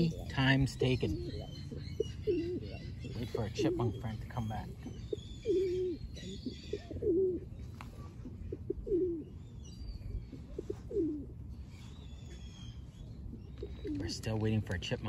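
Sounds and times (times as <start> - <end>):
pigeon cooing: 0.0 - 11.4, 12.2 - 14.5
small birds chirping: 0.0 - 15.0.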